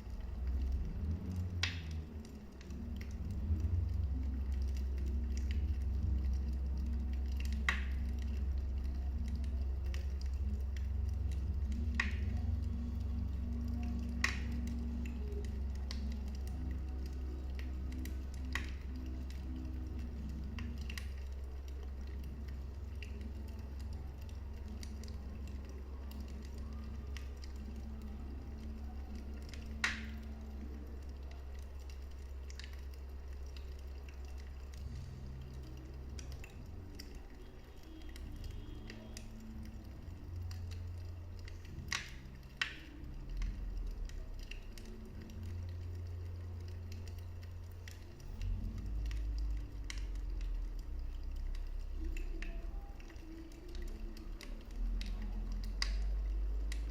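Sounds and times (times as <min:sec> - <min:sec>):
low steady drone: 0:00.0 - 0:56.9
wood fire crackling: 0:00.0 - 0:56.9.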